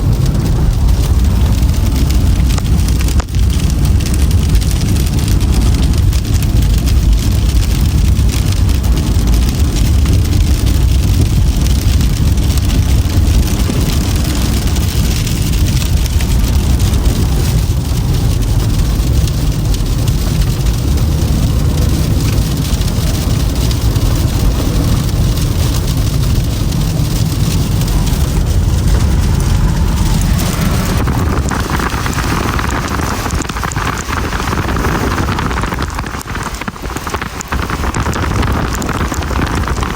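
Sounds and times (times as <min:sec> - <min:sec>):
tyre and road rumble: 0:00.0 - 0:39.9.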